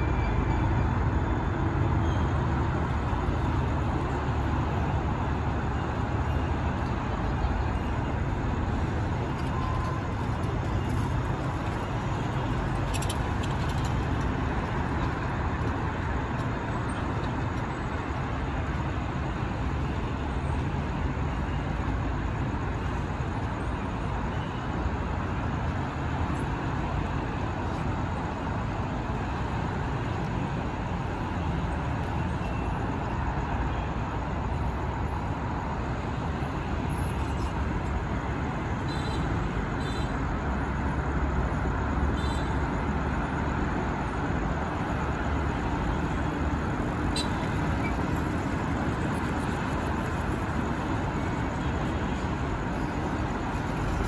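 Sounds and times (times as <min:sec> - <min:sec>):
low rumble of vehicles: 0:00.0 - 0:54.0.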